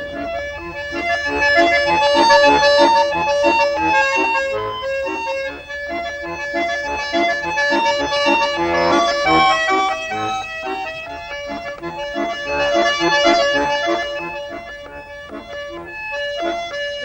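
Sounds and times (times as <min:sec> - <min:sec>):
accordion dance tune: 0:00.0 - 0:17.0
rhythmic accompaniment: 0:00.0 - 0:17.0.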